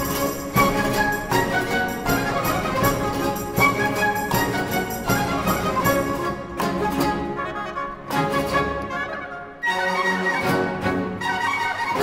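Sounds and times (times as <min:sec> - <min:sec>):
chamber orchestra playing dance: 0:00.0 - 0:12.0.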